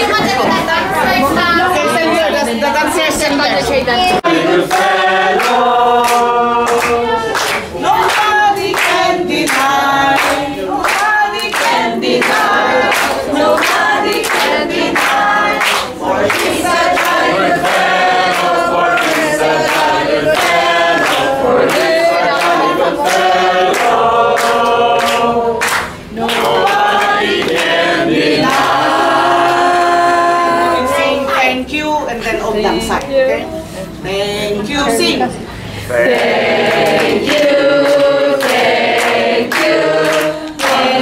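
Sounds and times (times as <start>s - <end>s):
group singing in chorus: 4.0s - 34.2s, 35.1s - 41.0s.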